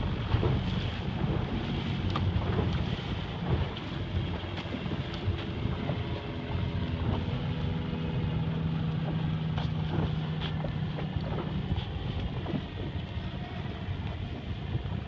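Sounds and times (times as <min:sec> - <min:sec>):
outboard motor humming: 0:00.0 - 0:15.0
water splashing against hull: 0:00.0 - 0:15.0
wind noise on microphone: 0:00.0 - 0:15.0.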